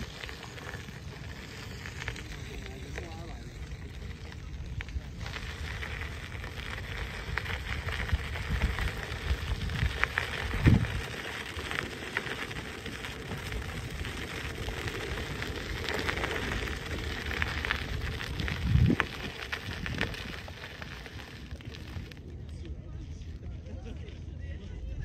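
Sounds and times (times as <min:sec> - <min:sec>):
tyres crunching on gravel: 0:00.0 - 0:24.7.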